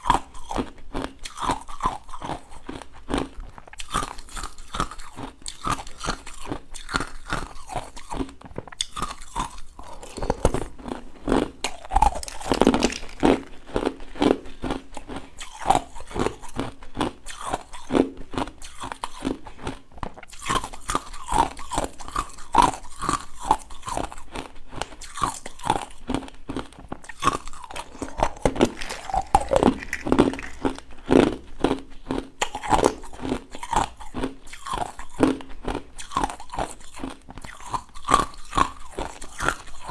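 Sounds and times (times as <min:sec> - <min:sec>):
crunching ice between teeth: 0:00.0 - 0:39.9.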